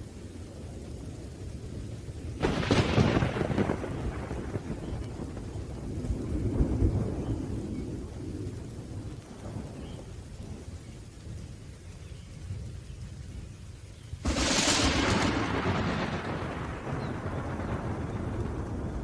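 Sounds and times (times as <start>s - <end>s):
steady rain: 0.0s - 19.0s
thunder rumbling: 0.0s - 19.0s.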